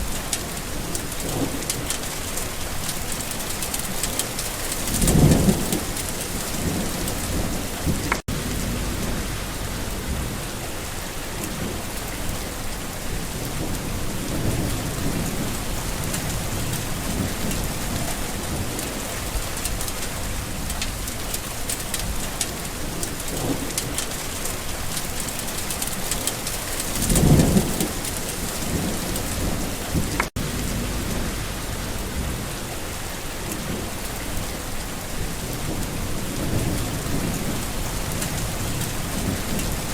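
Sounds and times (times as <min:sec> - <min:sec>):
low thunder rumbling: 0:00.0 - 0:39.9
steady rain falling: 0:00.0 - 0:39.9.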